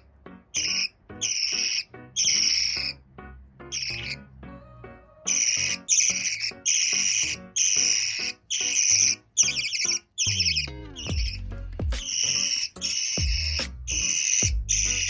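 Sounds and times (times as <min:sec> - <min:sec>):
quiet background music: 0:00.0 - 0:15.0
budgerigar chick calling: 0:00.5 - 0:03.0, 0:03.6 - 0:04.3, 0:05.3 - 0:15.0.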